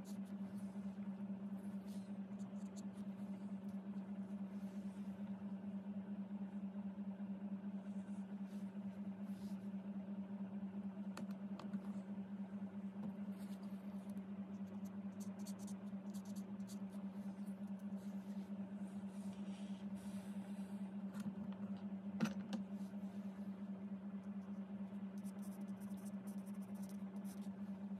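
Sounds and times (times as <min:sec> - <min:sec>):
pulsing low hum: 0:00.0 - 0:27.9.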